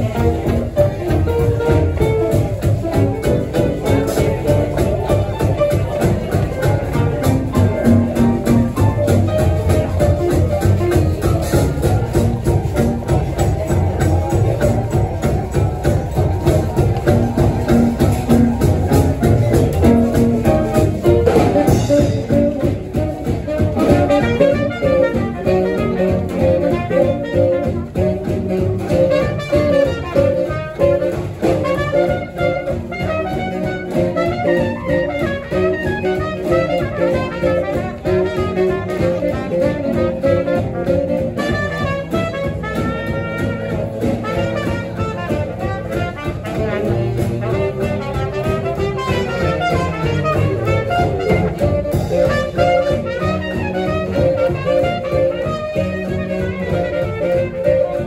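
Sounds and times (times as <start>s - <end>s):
archtop guitar: 0.0s - 58.0s
double bass: 0.0s - 58.0s
drums: 0.0s - 58.0s
saxophone: 0.0s - 58.0s
trumpet: 0.0s - 58.0s.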